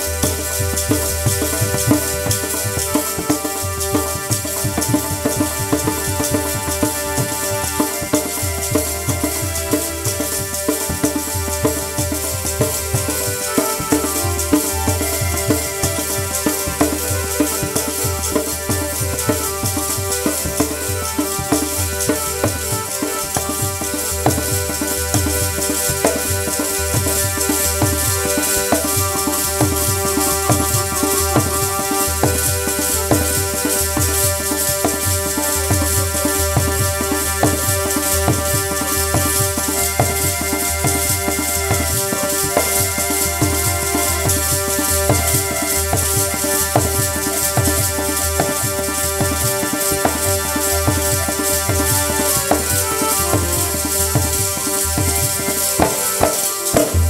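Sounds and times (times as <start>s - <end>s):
harmonium sustained notes: 0.0s - 57.0s
tabla rhythm: 0.0s - 57.0s.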